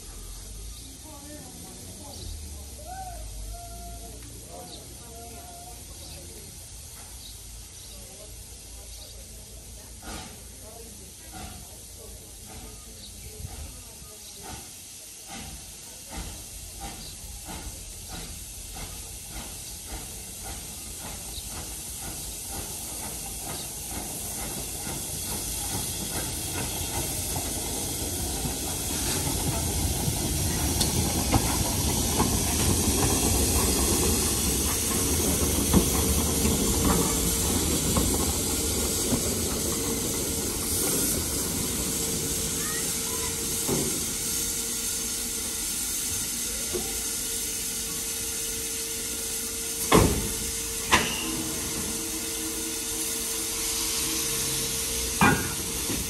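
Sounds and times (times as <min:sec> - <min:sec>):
steam locomotive hissing: 0:00.0 - 0:56.0
regular locomotive beat: 0:05.0 - 0:56.0.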